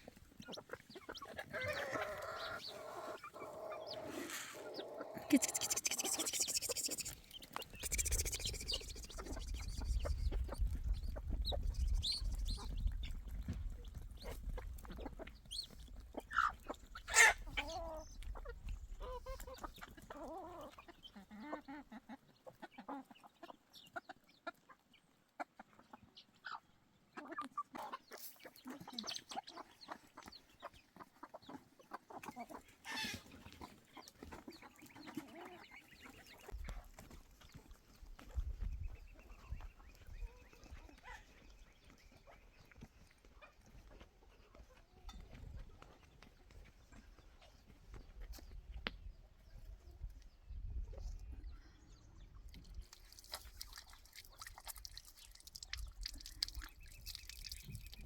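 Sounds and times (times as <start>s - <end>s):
chickens clucking: 0.0s - 51.3s.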